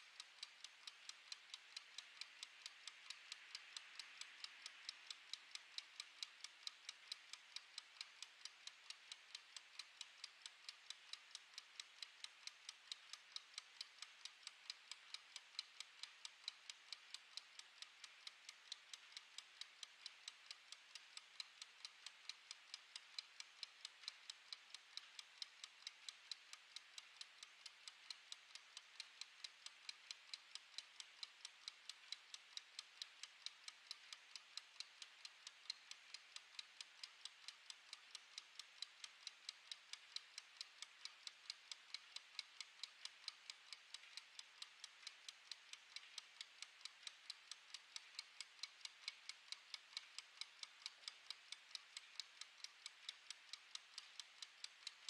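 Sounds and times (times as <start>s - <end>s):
kitchen timer ticking: 0.0s - 55.0s.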